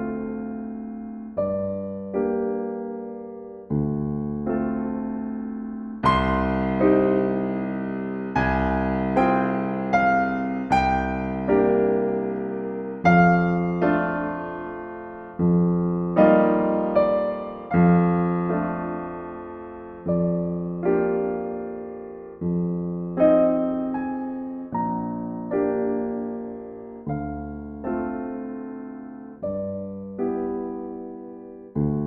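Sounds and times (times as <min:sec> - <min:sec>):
gentle solo piano: 0:00.0 - 0:32.0.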